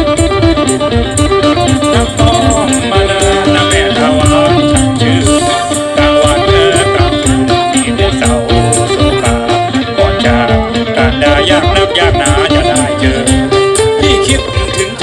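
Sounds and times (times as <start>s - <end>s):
drum and rattle beat: 0.0s - 15.0s
plucked lute: 0.0s - 15.0s
mouth organ drone: 0.6s - 15.0s.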